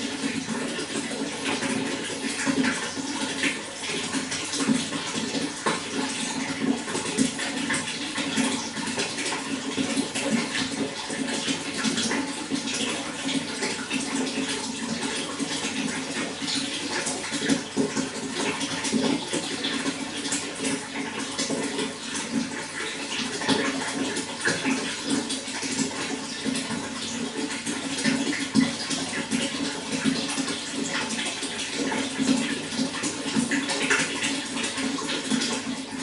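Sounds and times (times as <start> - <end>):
running water flowing: 0.0 - 36.0.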